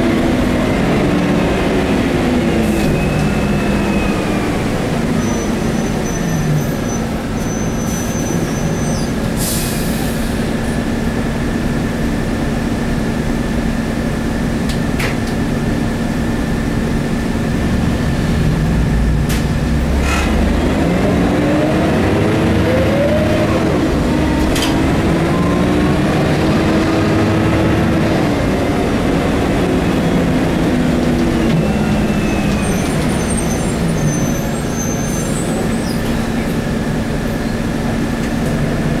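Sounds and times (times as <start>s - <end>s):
bus engine running: 0.0s - 39.0s.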